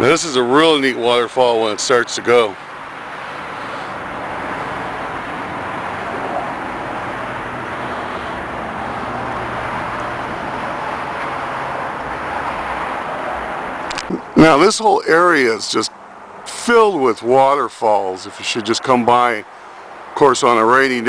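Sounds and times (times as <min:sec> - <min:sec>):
road traffic humming: 0:00.0 - 0:21.0.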